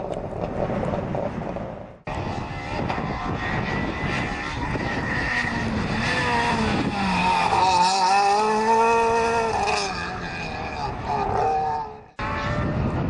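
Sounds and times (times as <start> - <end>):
rally car engine passing by: 2.1 - 13.0.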